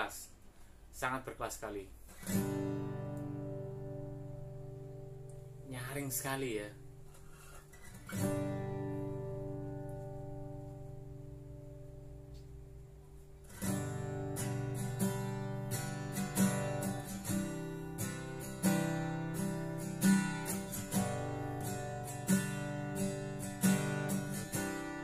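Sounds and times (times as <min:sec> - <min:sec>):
acoustic guitar strummed: 0:02.2 - 0:25.0.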